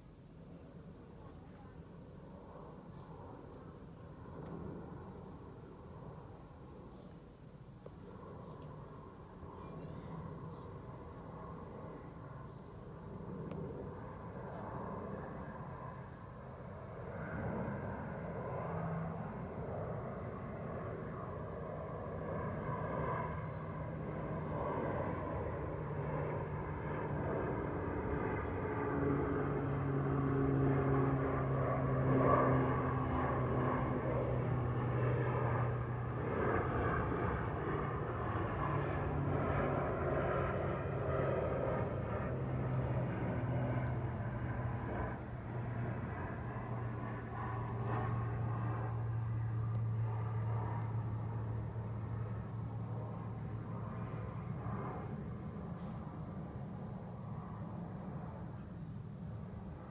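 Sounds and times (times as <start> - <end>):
airplane engine drone: 0.0 - 59.9.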